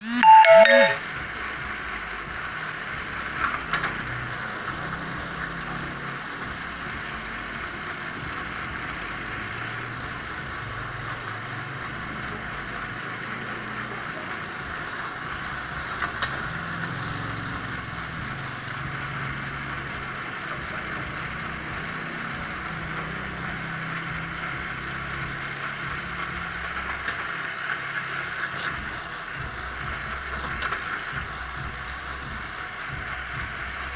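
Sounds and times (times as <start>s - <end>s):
machine humming and whirring: 1.0s - 33.9s.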